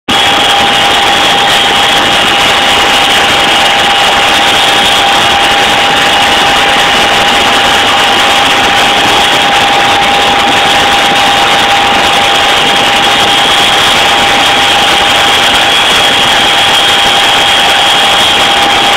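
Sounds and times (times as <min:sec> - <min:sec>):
helicopter cabin rush: 0:00.1 - 0:18.9
high-pitched whines: 0:00.1 - 0:18.9.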